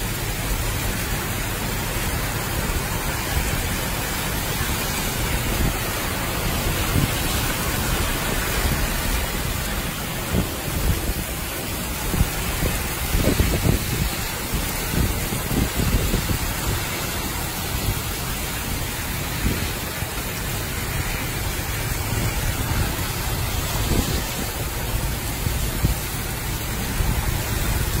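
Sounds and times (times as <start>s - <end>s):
heavy rain pouring: 0.0s - 28.0s
low rumbles: 0.0s - 28.0s.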